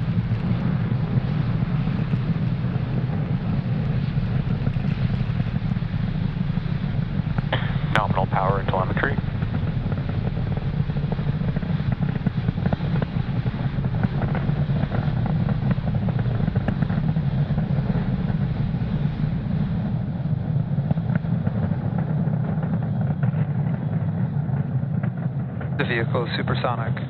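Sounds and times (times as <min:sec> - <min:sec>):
rocket engines rumbling: 0:00.0 - 0:27.0.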